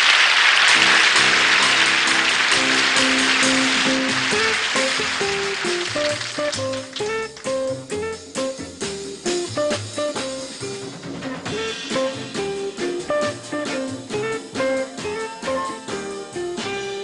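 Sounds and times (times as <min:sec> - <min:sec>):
drum kit keeping time: 0:00.7 - 0:17.0
jazz electric guitar melody: 0:00.7 - 0:17.0.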